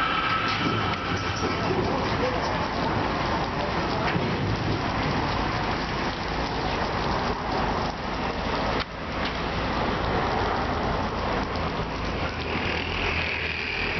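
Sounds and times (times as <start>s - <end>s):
water spraying onto car: 0.0s - 13.9s.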